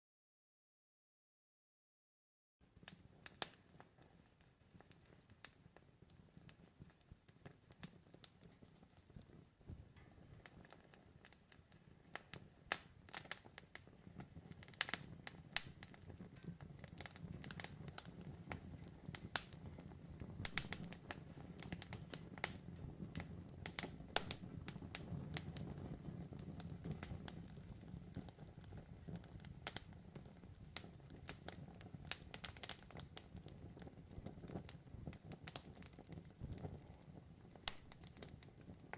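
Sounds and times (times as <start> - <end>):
campfire crackling and popping: 2.7 - 38.9
low rumble of flames: 2.7 - 38.9.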